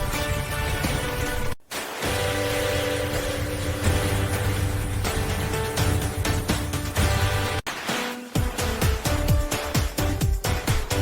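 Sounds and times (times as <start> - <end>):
electronic music with kick-drum beat: 2.0 - 11.0.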